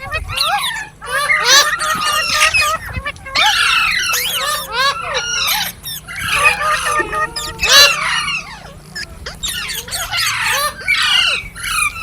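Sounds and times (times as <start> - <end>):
parrot chattering: 0.3 - 12.0.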